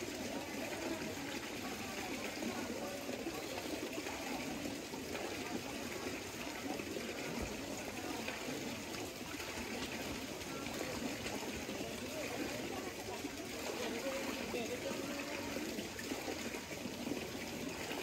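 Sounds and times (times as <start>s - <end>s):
water trickling over cascades: 0.0s - 18.0s.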